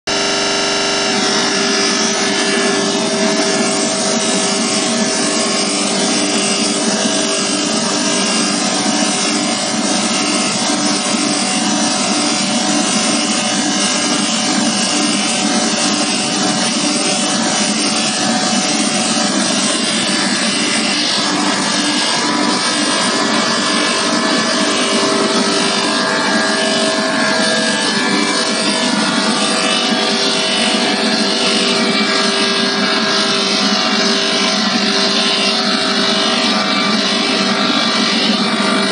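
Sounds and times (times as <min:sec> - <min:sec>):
humming tones: 0:00.1 - 0:38.9
industrial burner roaring: 0:00.1 - 0:38.9.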